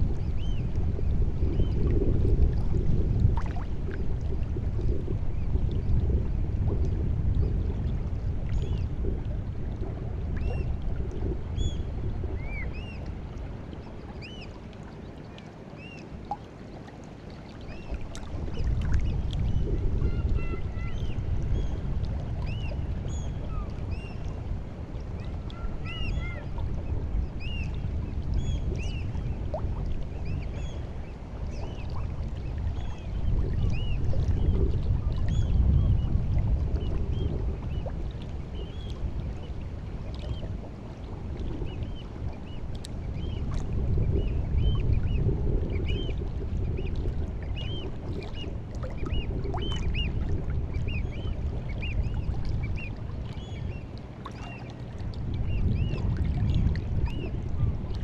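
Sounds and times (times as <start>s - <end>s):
small waves lapping at shore: 0.0s - 58.0s.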